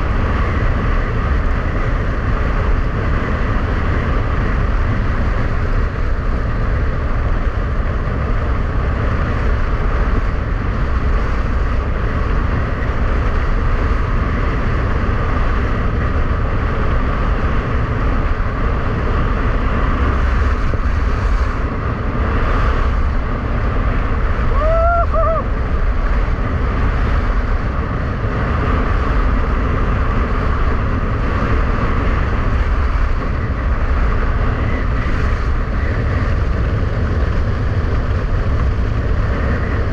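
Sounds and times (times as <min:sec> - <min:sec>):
strong wind on microphone: 0:00.0 - 0:39.9.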